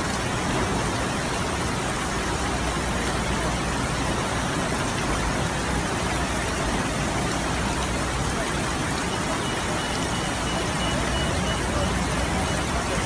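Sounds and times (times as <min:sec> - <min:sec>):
fast-flowing floodwater: 0:00.0 - 0:13.0
heavy rain: 0:00.0 - 0:13.0.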